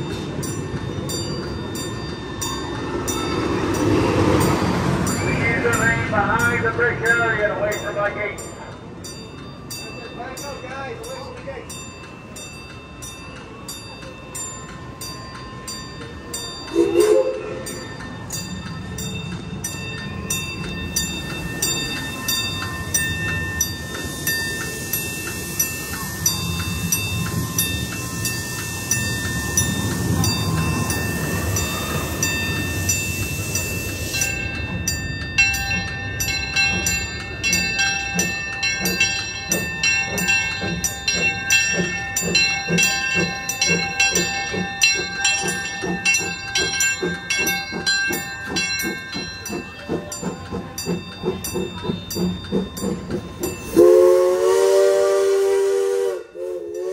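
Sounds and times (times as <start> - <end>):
crossing signal bell ringing: 0.0 - 56.9
steam locomotive rumble: 0.0 - 56.9.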